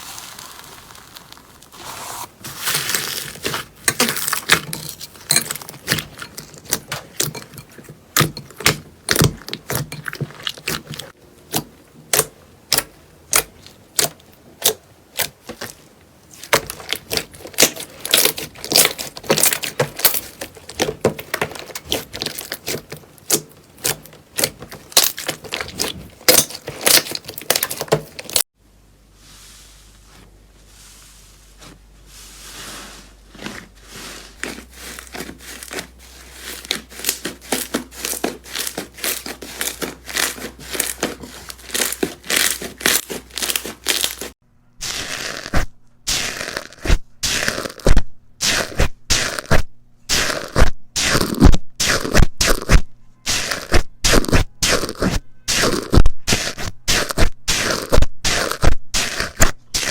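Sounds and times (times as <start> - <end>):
slime crackling and popping: 0.0 - 7.4, 8.2 - 28.5, 34.4 - 59.9.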